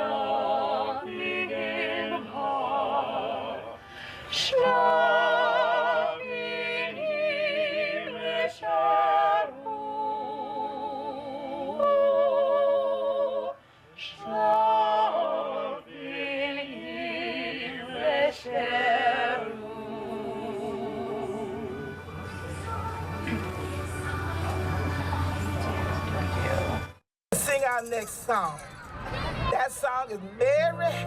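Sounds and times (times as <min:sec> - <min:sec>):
person singing with vibrato: 0:00.0 - 0:25.5.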